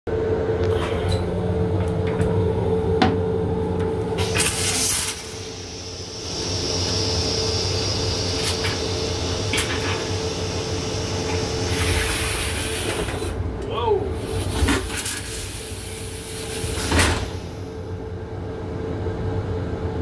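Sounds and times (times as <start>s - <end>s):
railcar hum: 0.1s - 20.0s.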